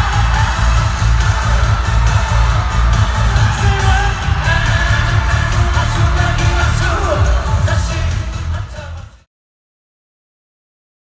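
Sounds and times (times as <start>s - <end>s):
heavy pulsing bass beat: 0.0s - 9.2s
live pop song with singing: 0.0s - 9.3s.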